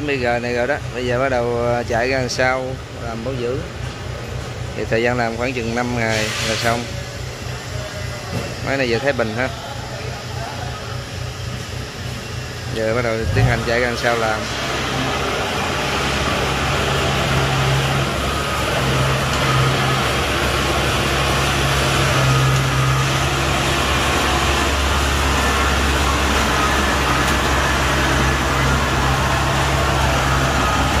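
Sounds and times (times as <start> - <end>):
combine harvester diesel engine running: 0.0 - 31.0.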